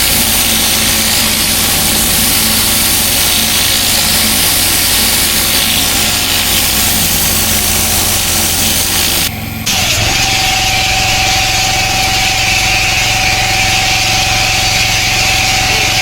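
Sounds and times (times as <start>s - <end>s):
pressure washer engine running: 0.0s - 16.0s
water jet hissing: 0.0s - 16.0s.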